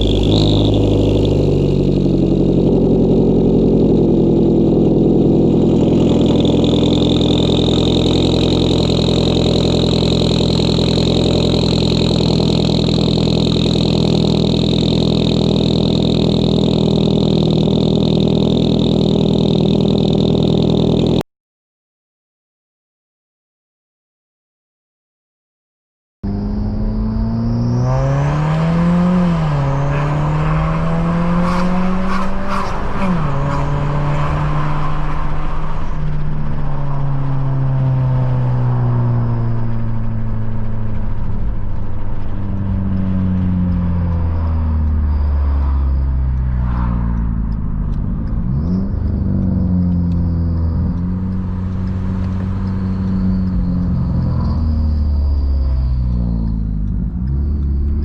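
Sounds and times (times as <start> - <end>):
car engine revving: 0.0 - 21.2, 26.2 - 58.0.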